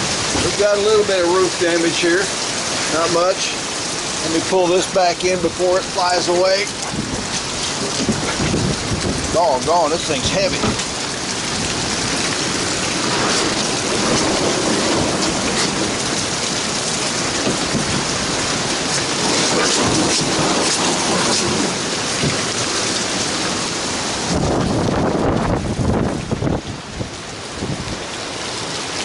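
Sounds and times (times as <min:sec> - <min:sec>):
heavy rain and wind: 0:00.0 - 0:29.0.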